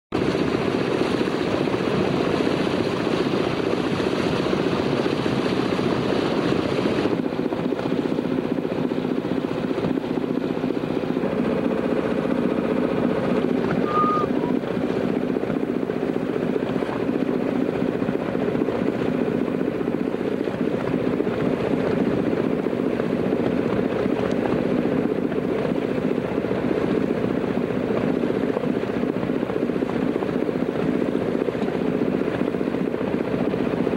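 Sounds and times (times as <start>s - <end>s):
engine drone: 0.1s - 33.9s.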